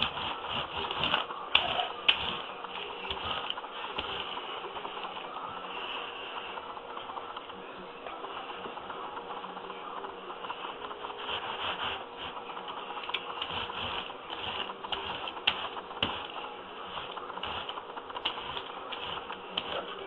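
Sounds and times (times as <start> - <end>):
rustling and scraping on carpet: 0.0 - 6.6, 10.4 - 20.0.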